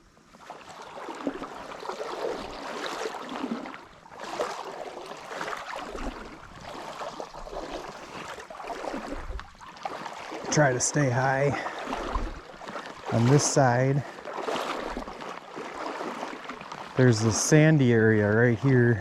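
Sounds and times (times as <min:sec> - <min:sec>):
water splashing around wading legs: 0:00.3 - 0:19.0.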